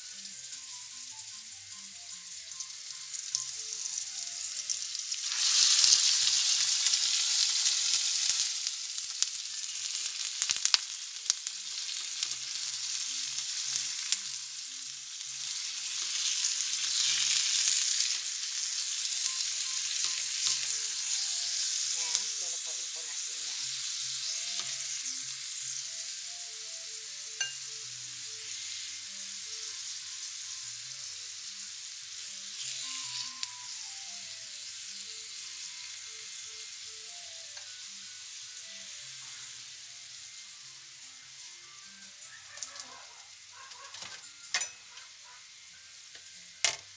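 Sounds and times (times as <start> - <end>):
chicken sizzling in hot oil: 0.0 - 46.9.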